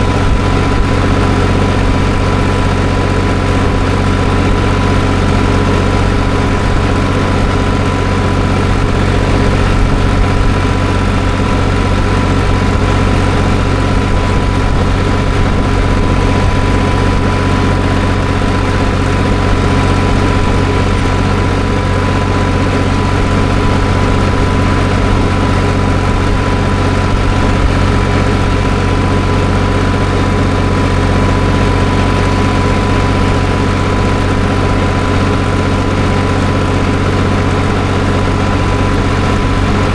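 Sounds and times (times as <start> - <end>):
steady whine: 0.0 - 39.9
tractor engine running: 0.0 - 39.9.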